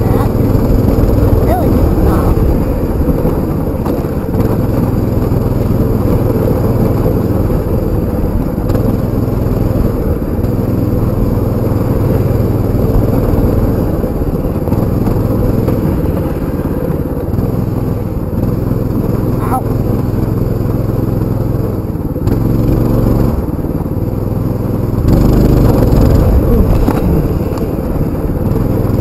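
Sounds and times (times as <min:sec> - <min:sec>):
dirt bike engine revving: 0:00.0 - 0:21.4, 0:24.4 - 0:29.0.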